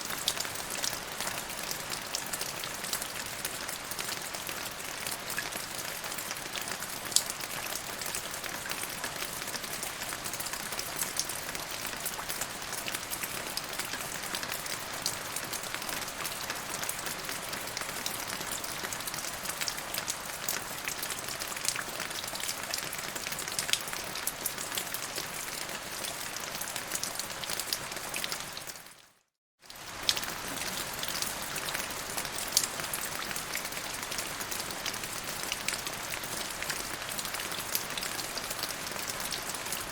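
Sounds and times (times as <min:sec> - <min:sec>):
steady rain falling: 0:00.0 - 0:29.0, 0:29.6 - 0:39.9.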